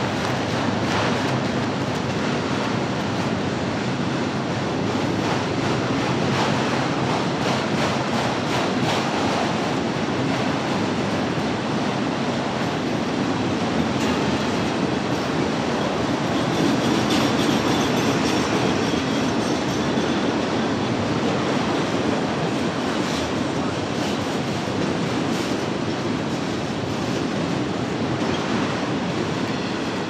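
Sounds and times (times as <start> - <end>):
train wheels rolling on rail: 0.0 - 30.0.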